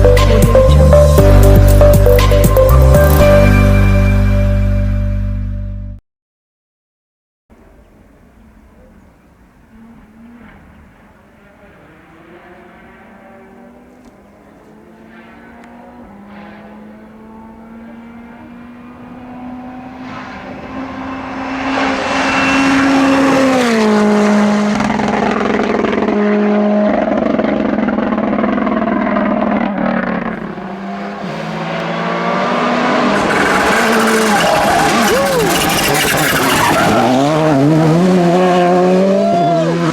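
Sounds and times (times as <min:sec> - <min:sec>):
rally car engine approaching: 0:07.6 - 0:39.9.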